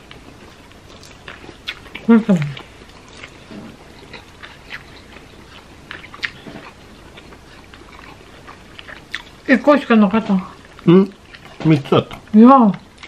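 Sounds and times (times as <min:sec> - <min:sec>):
chewing and eating: 0:00.0 - 0:13.0.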